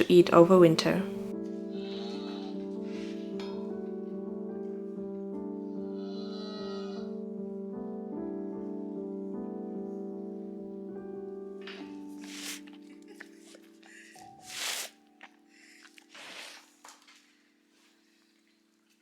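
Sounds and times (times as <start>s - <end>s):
calm music of held chords: 0.0s - 19.0s.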